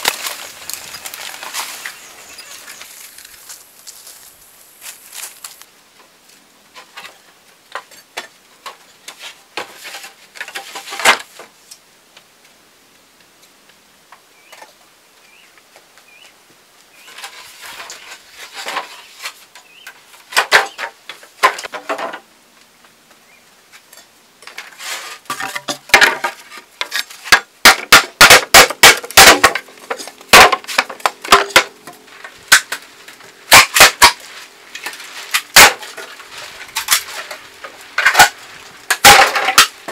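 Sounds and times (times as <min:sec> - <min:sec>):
bamboo poles clattering: 0:00.0 - 0:05.6, 0:06.7 - 0:11.8, 0:17.0 - 0:22.3, 0:23.7 - 0:39.9.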